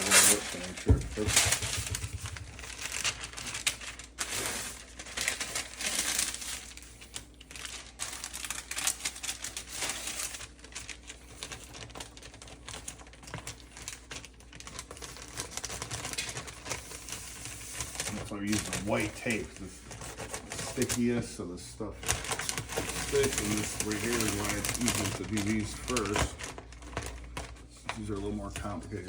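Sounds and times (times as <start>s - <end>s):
paper crinkling and rustling: 0.0s - 29.0s.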